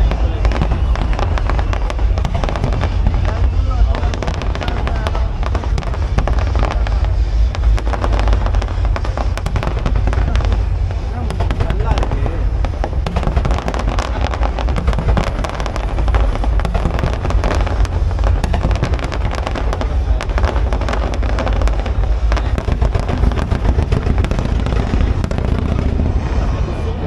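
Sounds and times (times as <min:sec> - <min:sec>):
fireworks cracking and crackling: 0:00.0 - 0:27.0
fireworks deep booms: 0:00.0 - 0:27.0.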